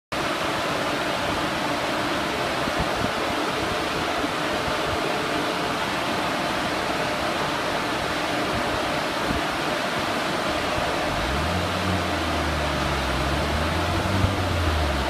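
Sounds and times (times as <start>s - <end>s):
cooling fan rushing air: 0.2s - 15.0s.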